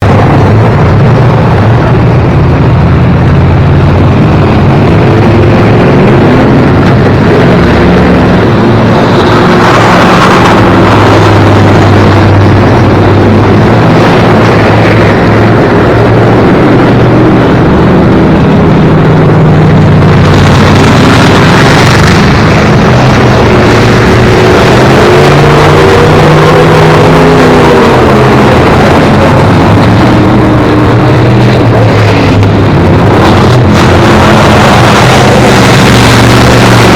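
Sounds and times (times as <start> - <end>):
racing car engines revving: 0.0 - 36.9.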